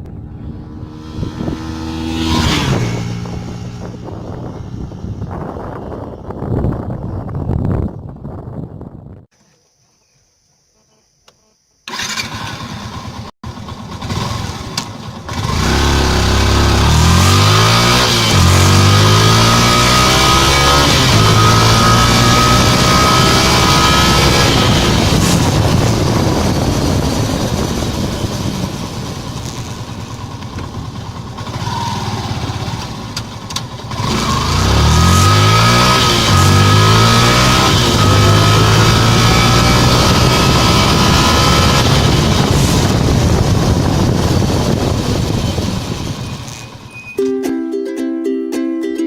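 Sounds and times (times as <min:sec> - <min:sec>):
motorcycle engine revving: 0:00.0 - 0:08.1, 0:11.9 - 0:47.2.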